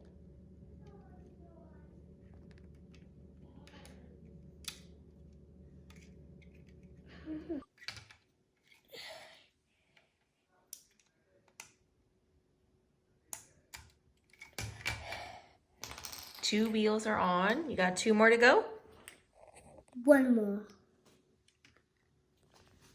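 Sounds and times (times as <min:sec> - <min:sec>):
low steady hum: 0:00.0 - 0:22.9.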